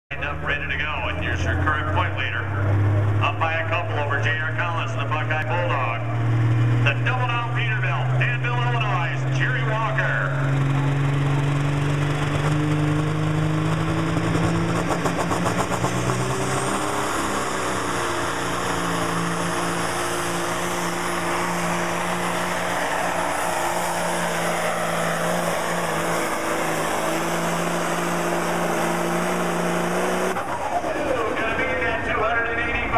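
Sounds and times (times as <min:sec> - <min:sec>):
diesel truck engine under load: 0:00.1 - 0:32.9.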